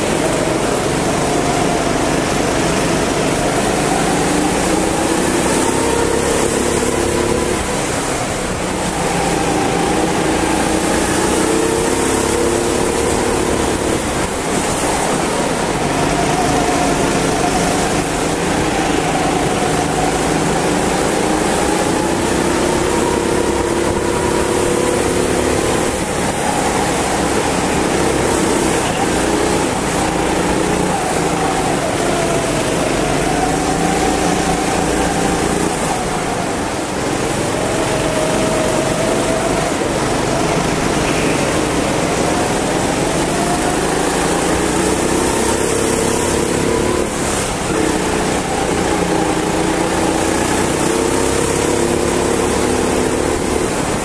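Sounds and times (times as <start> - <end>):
go-kart engine revving: 0.0 - 54.0
steady rush of noise: 0.0 - 54.0.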